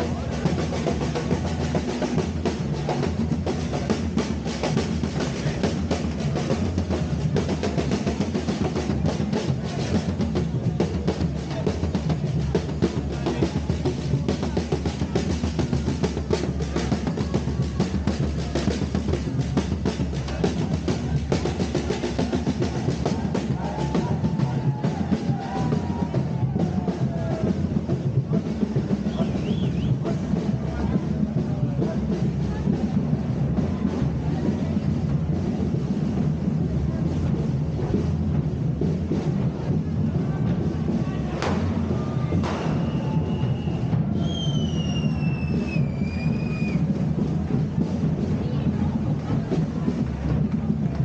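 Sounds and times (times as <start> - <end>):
bass and snare drums playing: 0.0 - 51.0.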